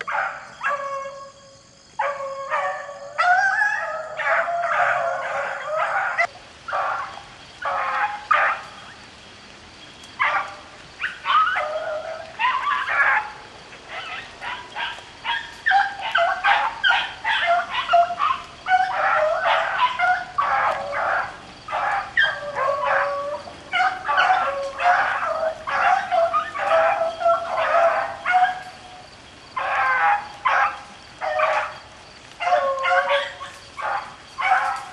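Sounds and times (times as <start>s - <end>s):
beagles baying and barking: 0.0s - 9.1s, 10.2s - 34.9s.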